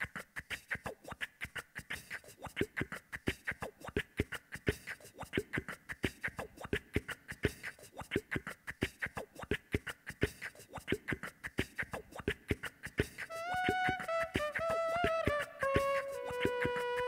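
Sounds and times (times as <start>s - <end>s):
vocal beatboxing: 0.0s - 17.0s.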